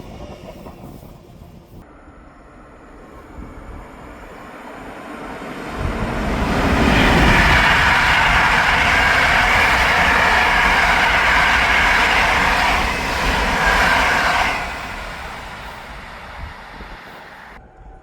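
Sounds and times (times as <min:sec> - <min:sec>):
train wheels on rails: 0:00.0 - 0:01.9, 0:02.7 - 0:17.6.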